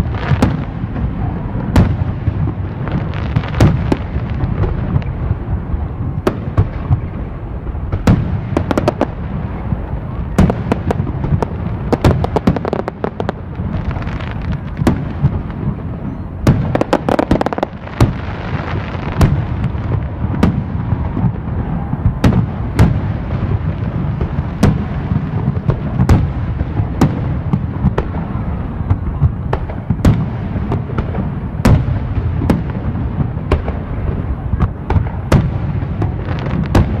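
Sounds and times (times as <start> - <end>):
fireworks bangs: 0.0 - 37.0
fireworks crackling: 0.0 - 37.0
low rumble of explosions: 0.0 - 37.0.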